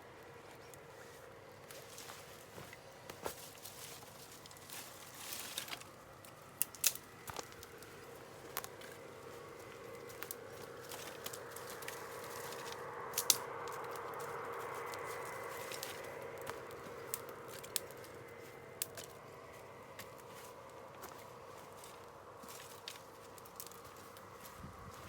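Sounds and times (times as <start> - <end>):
campfire crackling: 0.0 - 24.6.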